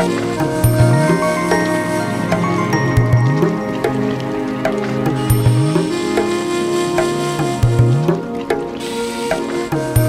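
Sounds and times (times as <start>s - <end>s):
plucked notes: 0.0s - 8.8s.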